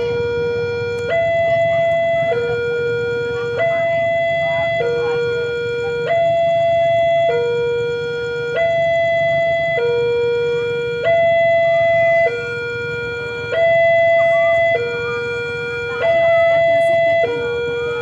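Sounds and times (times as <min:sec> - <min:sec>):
two-tone warning siren: 0:00.0 - 0:18.0.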